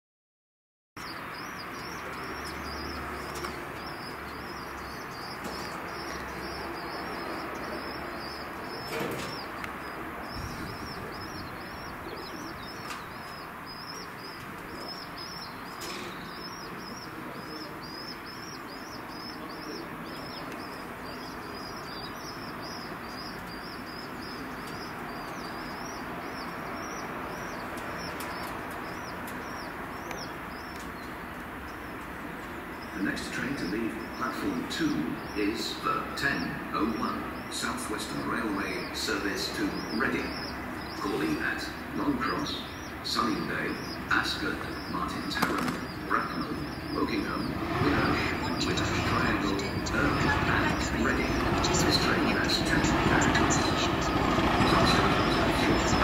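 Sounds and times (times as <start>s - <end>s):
high bird chirping: 1.0s - 56.0s
steady background hiss: 2.0s - 56.0s.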